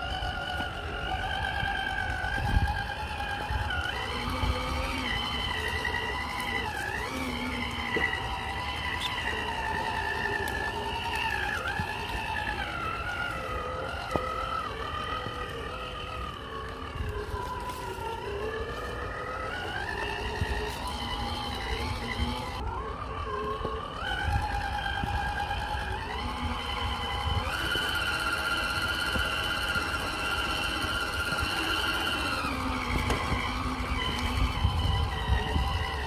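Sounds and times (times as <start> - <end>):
rc car motor whining: 0.0 - 36.0.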